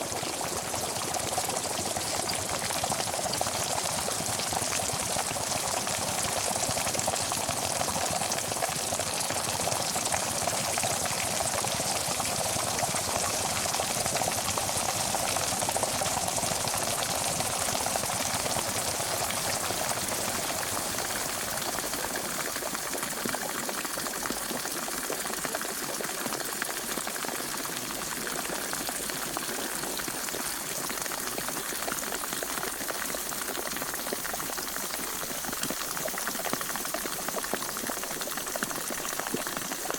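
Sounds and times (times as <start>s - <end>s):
water bubbling at rolling boil: 0.0s - 39.9s.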